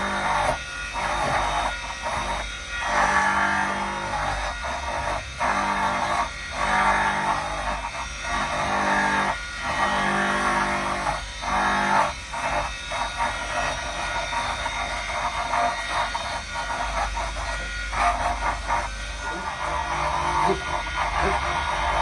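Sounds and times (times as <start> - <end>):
rotary tool grinding wood: 0.0 - 22.0.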